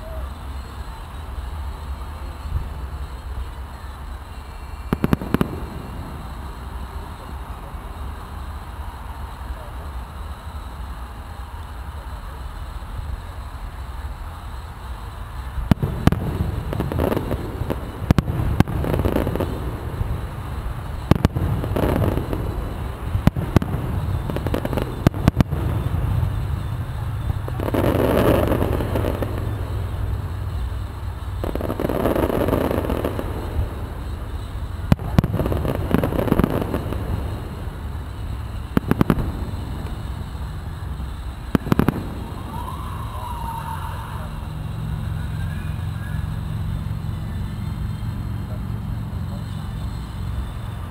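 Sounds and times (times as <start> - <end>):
firework shell bursts: 0.0 - 50.8
fireworks rushing: 0.0 - 50.9.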